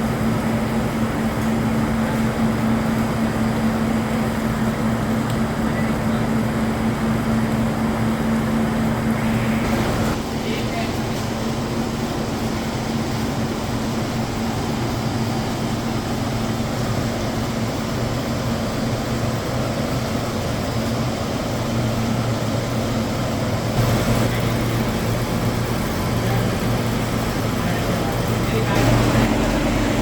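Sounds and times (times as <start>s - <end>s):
factory machinery humming: 0.0s - 30.0s.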